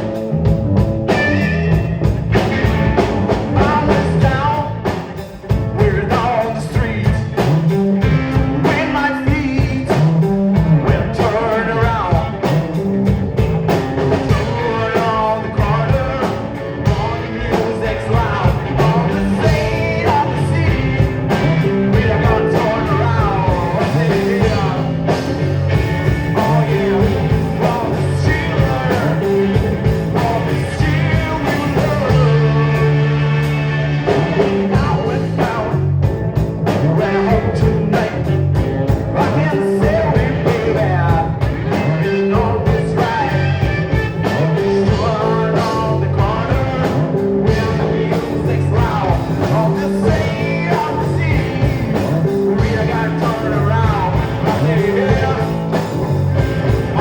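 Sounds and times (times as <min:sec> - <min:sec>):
rock band playing live: 0:00.0 - 0:57.0
person singing: 0:01.1 - 0:12.9, 0:14.1 - 0:36.0, 0:36.6 - 0:57.0.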